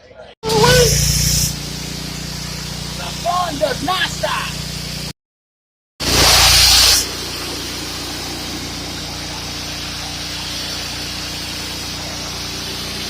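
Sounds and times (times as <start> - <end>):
pressure washer engine: 0.4 - 5.1, 6.0 - 13.0
water spray hissing: 0.4 - 5.1, 6.0 - 13.0.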